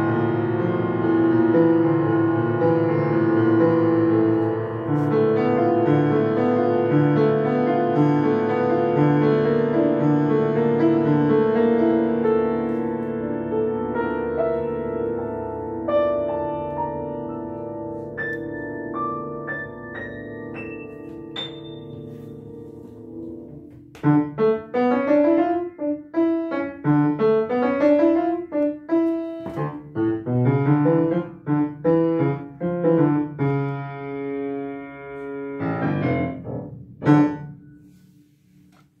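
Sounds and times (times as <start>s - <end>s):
acoustic piano playing: 0.0s - 39.0s.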